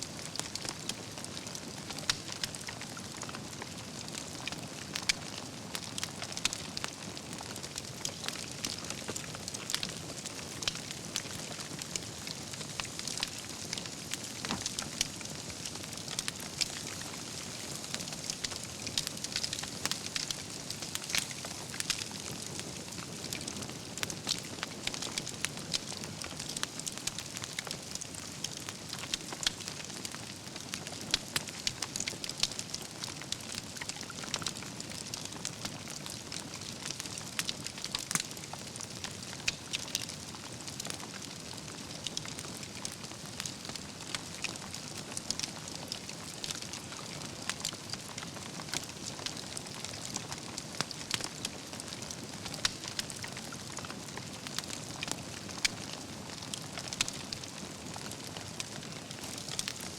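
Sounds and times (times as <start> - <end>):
campfire hissing: 0.1 - 59.9
fire crackling and popping: 0.1 - 59.9.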